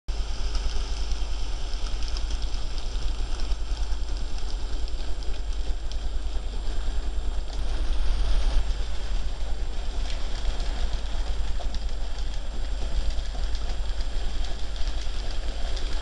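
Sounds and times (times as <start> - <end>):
low hum: 0.1 - 16.0
model train whirring and clicking: 0.1 - 16.0.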